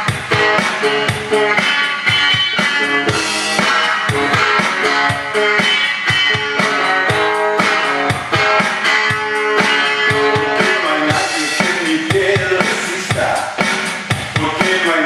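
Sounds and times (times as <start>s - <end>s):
drum beat: 0.0s - 15.0s
guitar music: 0.0s - 15.0s.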